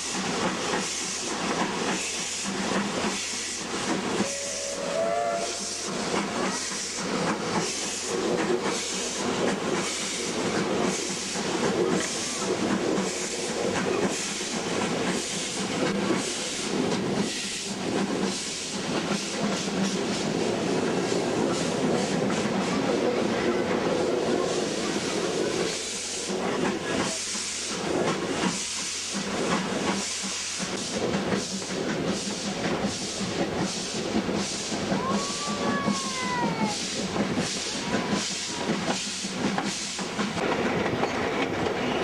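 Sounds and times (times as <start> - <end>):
steam locomotive chuffing: 0.0 - 42.0.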